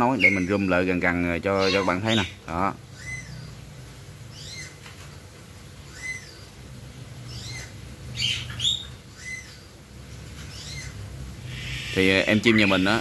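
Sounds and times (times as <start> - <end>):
young myna bird babbling calls: 0.0 - 4.9, 5.8 - 6.6, 7.2 - 9.8, 10.5 - 13.0.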